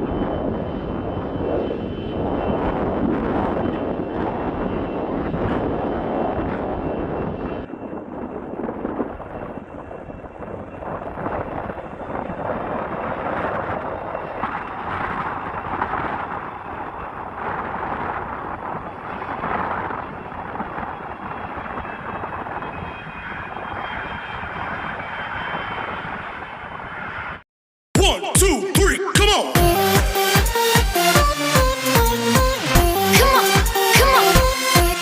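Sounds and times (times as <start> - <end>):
jet engines running: 0.0 - 27.4, 28.0 - 35.0.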